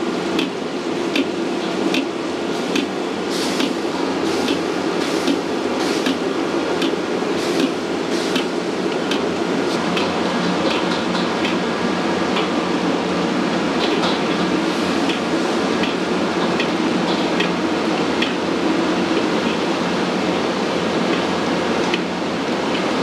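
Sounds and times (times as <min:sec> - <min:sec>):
wok burner roaring: 0:00.0 - 0:23.0.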